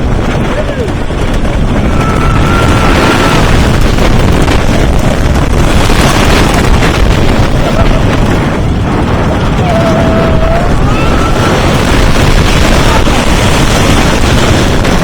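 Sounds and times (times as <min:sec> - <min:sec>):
roller coaster rumbling on wooden track: 0:00.0 - 0:15.0
wind blasting microphone: 0:00.0 - 0:15.0.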